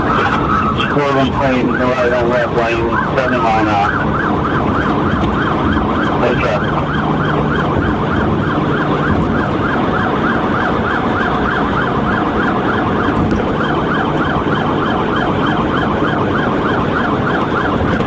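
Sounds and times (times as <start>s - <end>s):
police siren yelping: 0.0s - 18.0s
road and engine noise: 0.0s - 18.0s.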